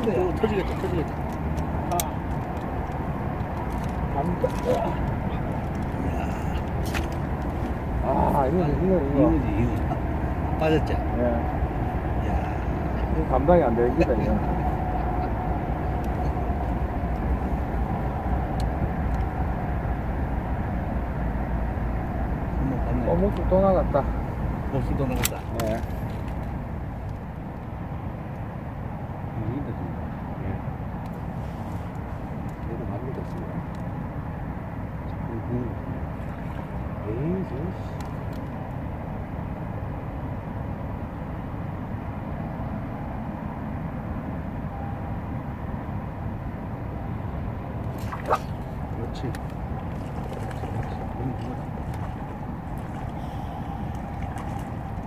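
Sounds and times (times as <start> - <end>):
low rumbling background noise: 0.0 - 55.0.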